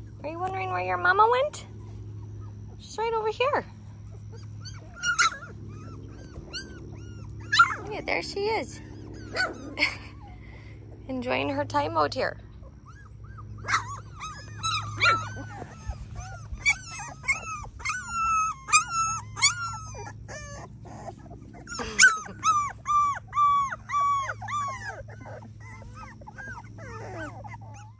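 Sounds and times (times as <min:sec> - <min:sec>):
puppies whining and crying: 0:00.0 - 0:27.9.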